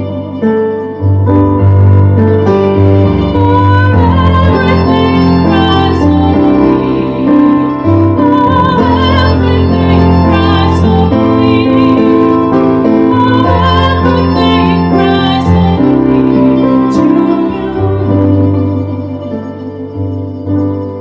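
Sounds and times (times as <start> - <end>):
woman singing: 0.0 - 1.2, 2.6 - 21.0
mandolin: 0.0 - 21.0.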